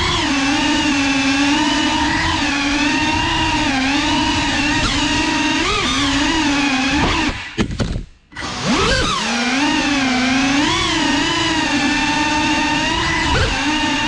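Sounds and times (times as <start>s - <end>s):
drone propellers whining: 0.0s - 7.6s, 8.3s - 14.0s.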